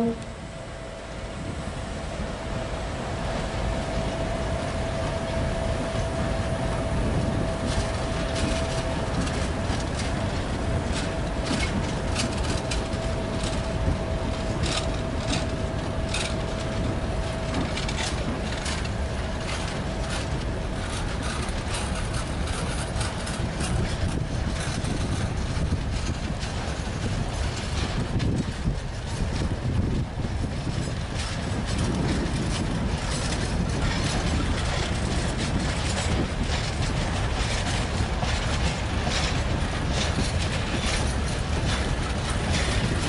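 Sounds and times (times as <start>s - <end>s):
freight train rumbling past: 0.0s - 43.0s
locomotive whine: 0.0s - 43.0s
wheels clacking over rail joints: 3.3s - 43.0s.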